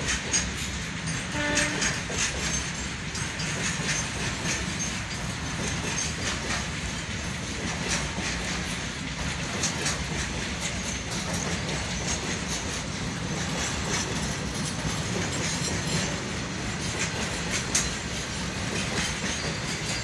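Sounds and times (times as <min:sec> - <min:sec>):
steel wheels clacking over rail joints: 0:00.0 - 0:20.0
train rumble: 0:00.0 - 0:20.0.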